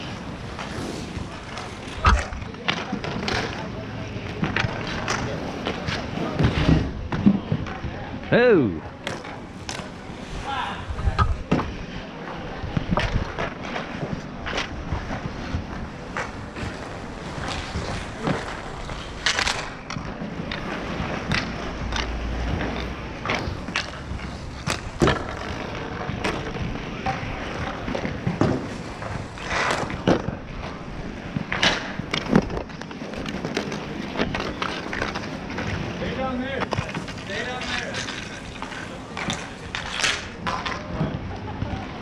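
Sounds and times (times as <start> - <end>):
hockey sticks clacking: 0.0 - 8.0, 8.9 - 42.0
skate wheels rolling on asphalt: 0.0 - 42.0.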